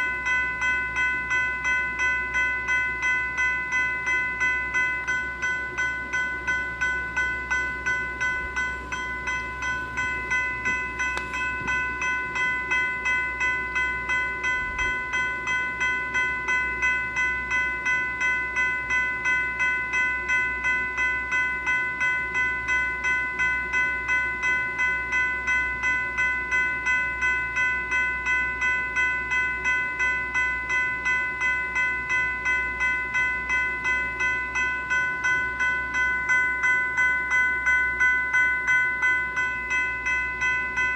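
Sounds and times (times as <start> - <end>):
railroad crossing bell ringing: 0.0 - 40.9.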